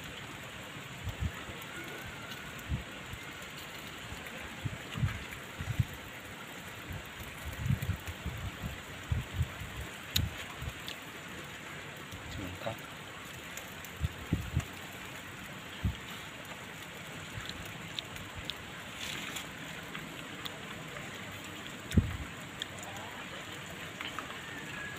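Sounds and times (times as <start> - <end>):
fish sizzling on grill: 0.0 - 24.9.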